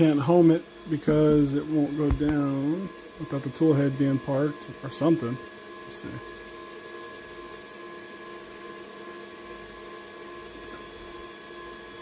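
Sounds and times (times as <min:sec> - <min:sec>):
printer humming with tones: 0:00.0 - 0:12.0.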